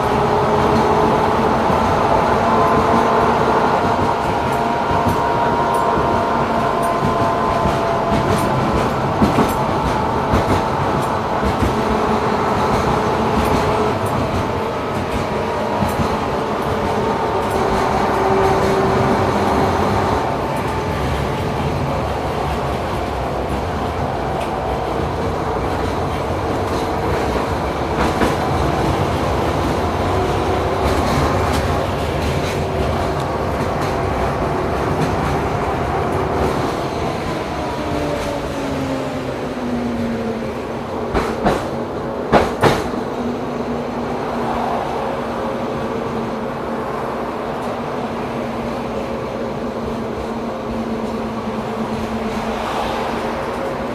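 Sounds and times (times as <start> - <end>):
tram rumbling on rails: 0.0 - 53.9.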